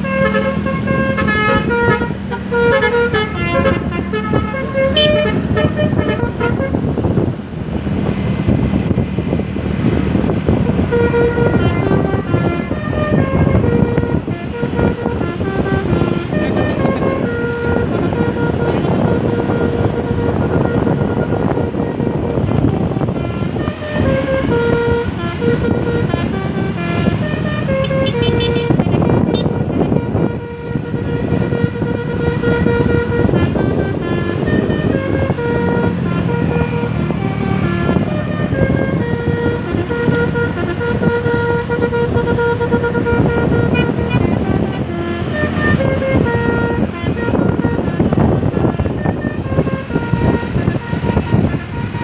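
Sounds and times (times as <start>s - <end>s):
multi-tone bus horn tune: 0.0s - 7.4s, 8.0s - 52.0s
vehicle noise: 0.0s - 52.0s.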